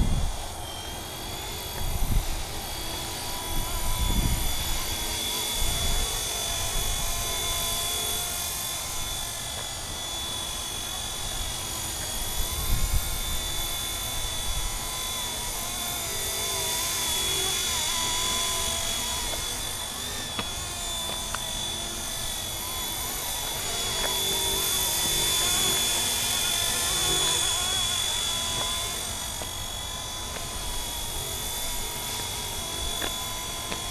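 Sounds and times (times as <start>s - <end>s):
helicopter in flight: 0.0s - 33.9s.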